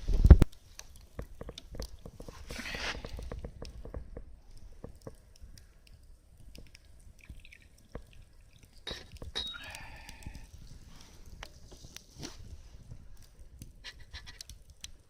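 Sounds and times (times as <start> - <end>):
campfire crackling: 0.0 - 15.0
liquid gurgling and dripping: 0.0 - 15.0.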